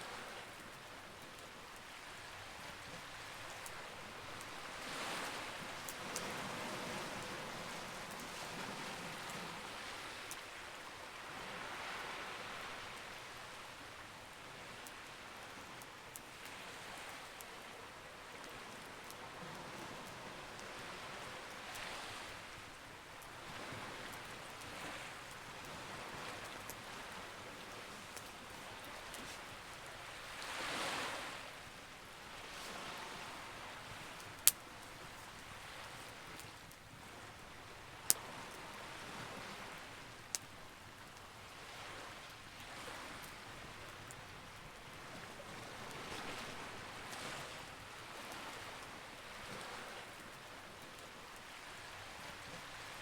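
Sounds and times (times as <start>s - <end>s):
sea waves: 0.0s - 53.0s
campfire crackling: 0.1s - 53.0s.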